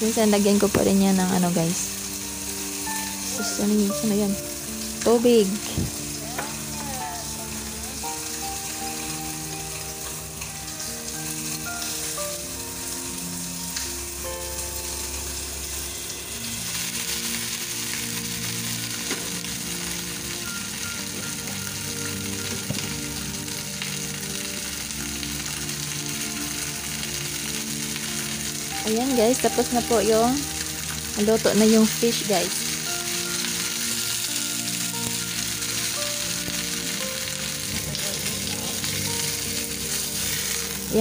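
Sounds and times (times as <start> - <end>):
background tune of held notes: 0.0 - 41.0
oil sizzling in a wok: 0.0 - 41.0.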